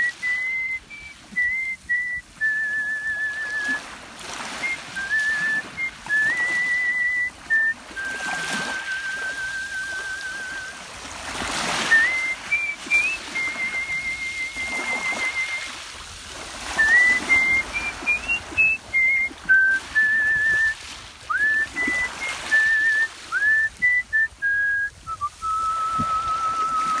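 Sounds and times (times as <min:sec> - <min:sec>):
person whistling a melody: 0:00.0 - 0:27.0.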